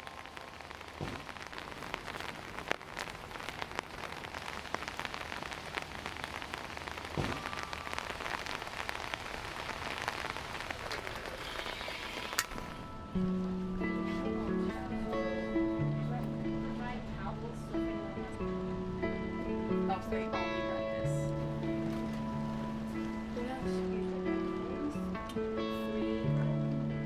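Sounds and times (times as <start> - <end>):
raindrops striking: 0.0 - 27.0.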